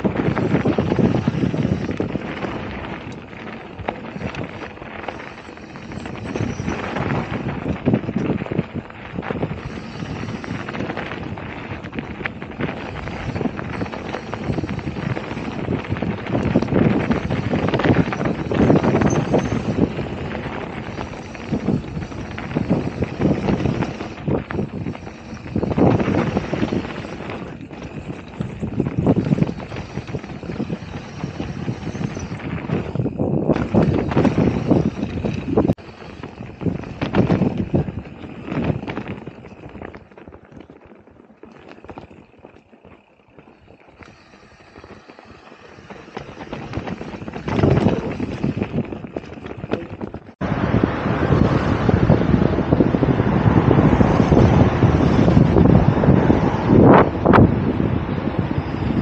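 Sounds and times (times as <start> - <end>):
bike clattering and rattling: 0.0 - 50.4, 51.1 - 59.0
bike jolts: 0.0 - 59.0
bike tyres rolling over dirt: 0.0 - 59.0
wind buffeting microphone: 0.0 - 59.0.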